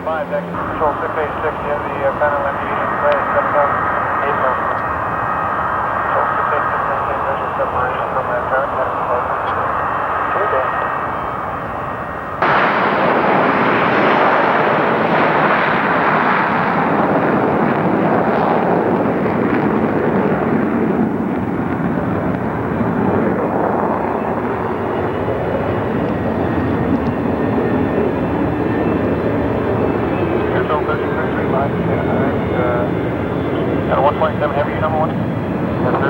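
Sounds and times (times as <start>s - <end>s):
airliner engines at takeoff power: 0.0s - 36.0s.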